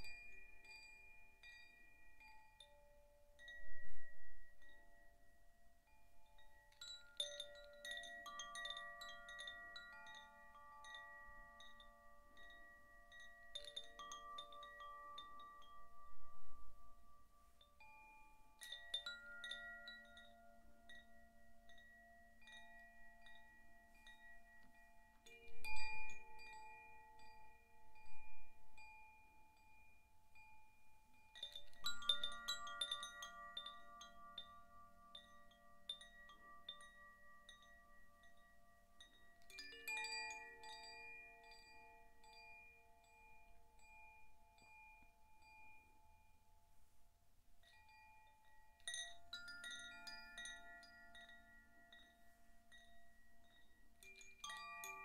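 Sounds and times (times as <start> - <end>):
wind chime ringing: 0.0 - 46.6, 47.6 - 55.0.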